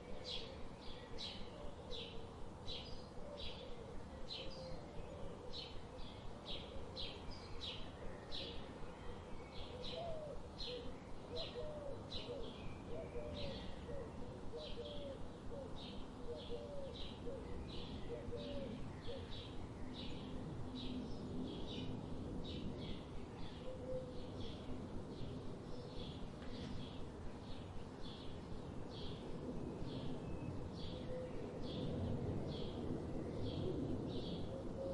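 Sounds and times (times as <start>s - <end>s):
faint background hiss: 0.0s - 34.9s.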